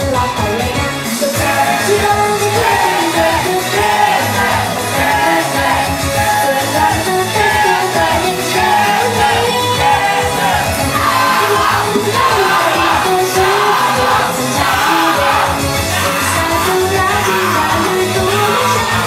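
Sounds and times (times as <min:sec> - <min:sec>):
amplified backing track: 0:00.0 - 0:19.0
women singing pop song: 0:00.0 - 0:19.0.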